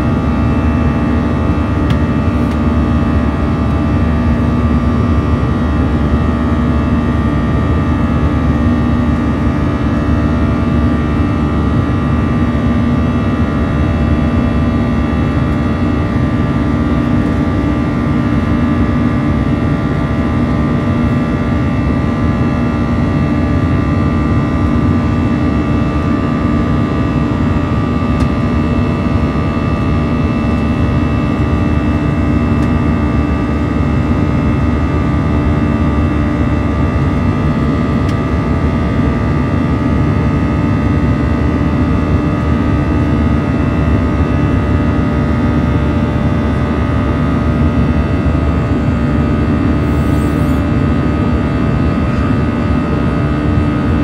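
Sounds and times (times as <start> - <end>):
jet engine rumble in cabin: 0.0 - 54.0.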